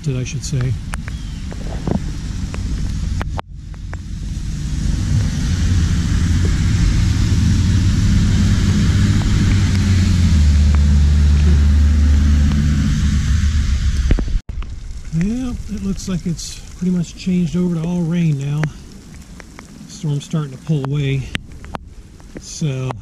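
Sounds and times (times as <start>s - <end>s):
tyre hiss on wet road: 0.0s - 22.9s
vehicle engine hum: 0.0s - 23.0s.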